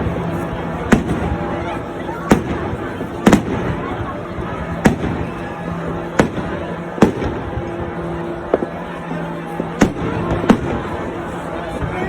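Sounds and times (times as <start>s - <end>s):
crackling rumble of distant fireworks: 0.0s - 12.0s
fireworks bangs: 0.0s - 12.0s.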